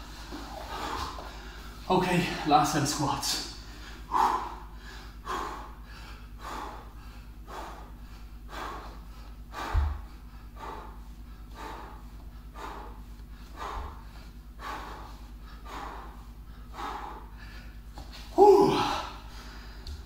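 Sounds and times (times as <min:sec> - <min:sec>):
man breathing hard: 0:00.0 - 0:02.7, 0:03.5 - 0:20.0.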